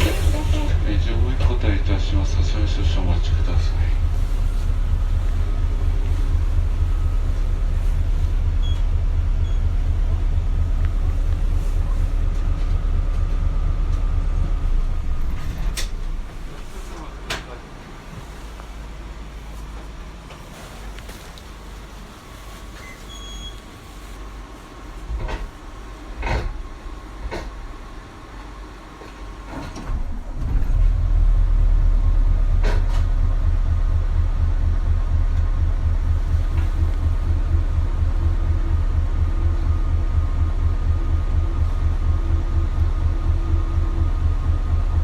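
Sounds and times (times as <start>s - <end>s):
diesel bus engine idling: 0.0s - 45.0s.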